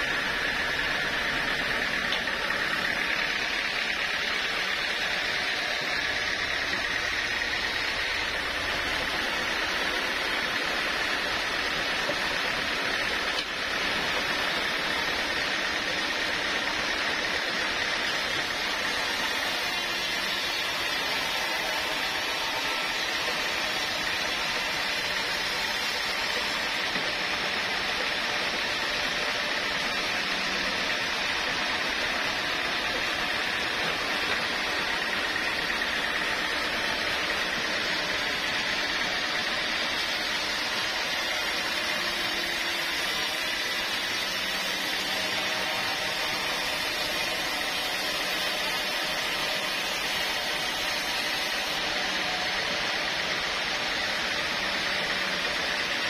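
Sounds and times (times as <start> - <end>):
high machine whine: 0.0 - 56.0
sawmill machinery running: 0.0 - 56.0.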